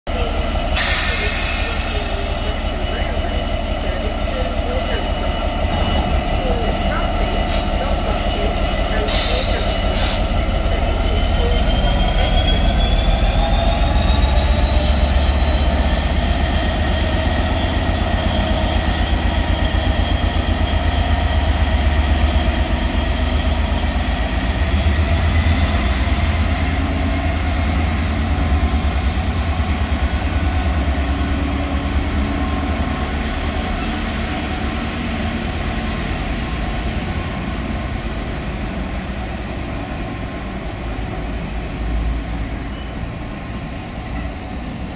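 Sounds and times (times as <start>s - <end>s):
diesel locomotive passing: 0.1s - 44.9s.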